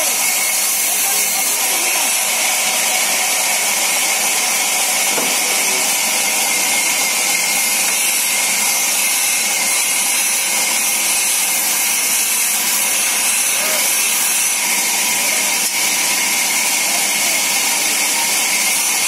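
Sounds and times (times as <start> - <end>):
band saw cutting log: 0.0 - 19.0.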